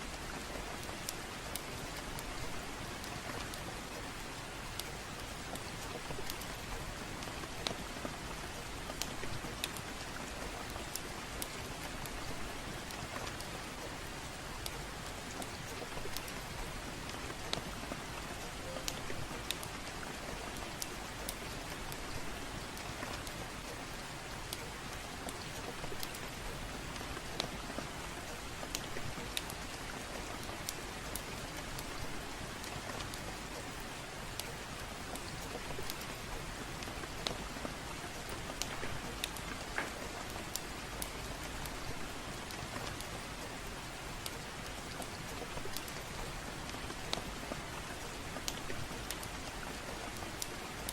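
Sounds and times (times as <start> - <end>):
rain hiss: 0.0 - 50.9
wood fire crackling: 0.1 - 50.9.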